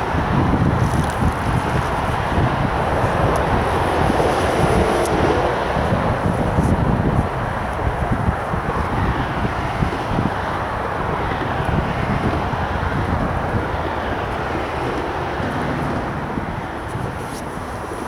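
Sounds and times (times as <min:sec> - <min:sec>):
road traffic hiss and rumble: 0:00.0 - 0:18.0
wind buffeting microphone: 0:00.0 - 0:18.0.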